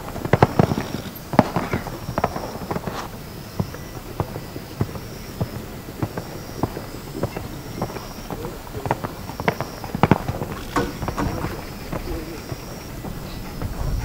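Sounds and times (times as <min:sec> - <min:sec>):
horse hoofbeats on sand: 0:00.0 - 0:14.0.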